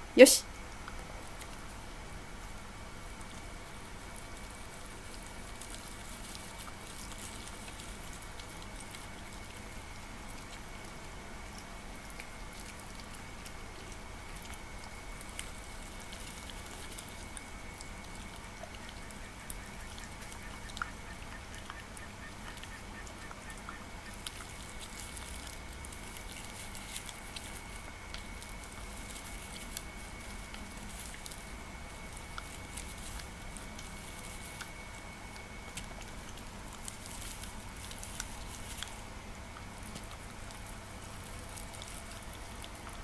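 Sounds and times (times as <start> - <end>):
dog chewing and licking: 0.8 - 1.8, 2.4 - 43.0.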